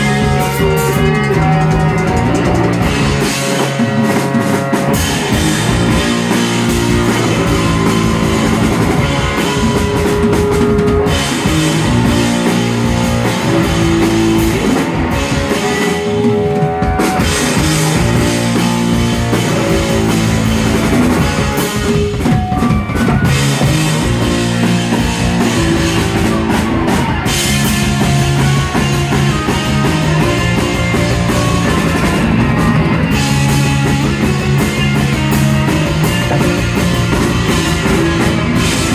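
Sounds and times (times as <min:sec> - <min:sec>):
drum kit: 0:00.0 - 0:38.9
electric guitars: 0:00.0 - 0:38.9.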